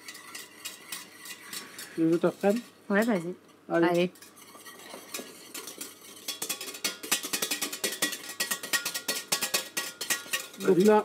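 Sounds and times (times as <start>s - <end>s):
whisk clicking against pan: 0.0s - 11.0s.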